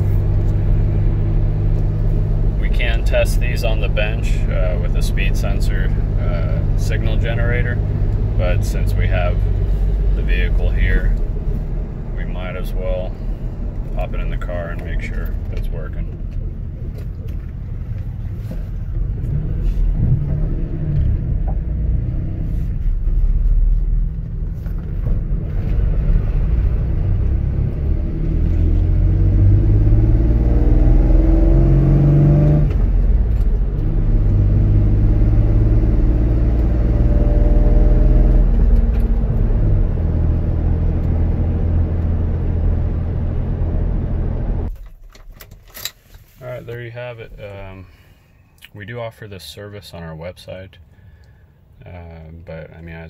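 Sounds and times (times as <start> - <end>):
truck engine: 0.0 - 44.8
road noise: 0.0 - 53.0.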